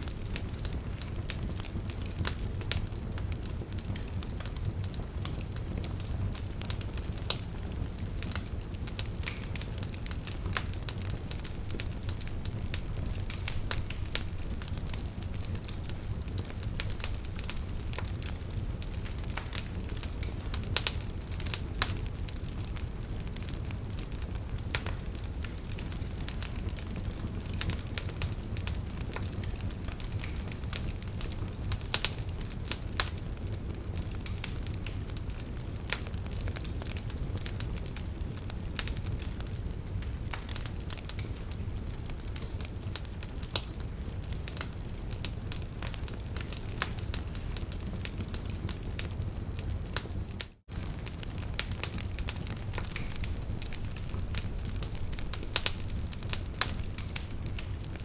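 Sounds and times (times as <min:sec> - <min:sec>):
fire flames rumbling: 0:00.0 - 0:58.0
logs crackling and popping: 0:00.0 - 0:58.0.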